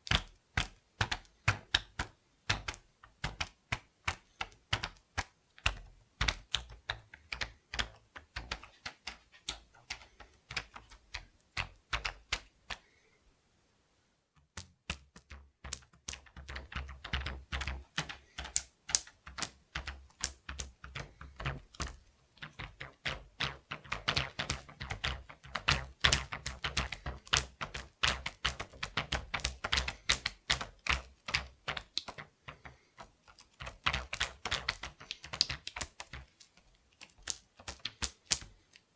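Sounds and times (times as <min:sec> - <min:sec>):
rubber bands snapping: 0:00.0 - 0:12.9, 0:14.4 - 0:38.9.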